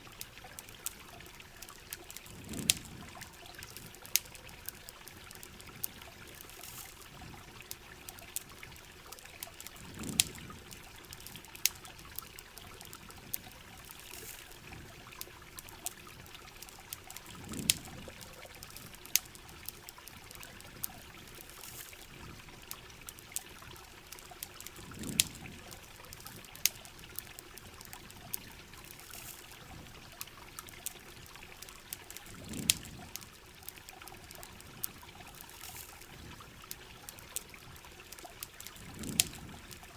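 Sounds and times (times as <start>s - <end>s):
campfire crackling: 0.0s - 39.9s
running river water: 0.0s - 39.9s
steady rain: 0.0s - 39.9s.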